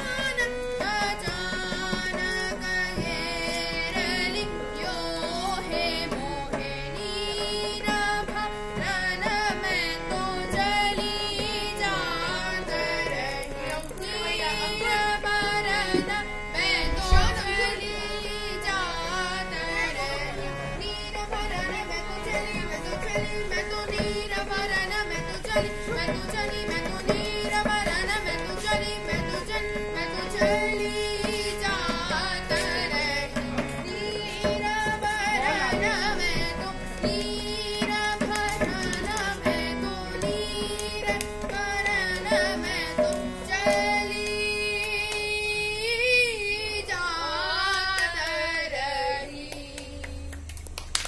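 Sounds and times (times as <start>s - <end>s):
boy singing classical vocal: 0.0s - 50.8s
harmonium: 0.0s - 51.0s
tabla rhythm: 0.0s - 51.0s.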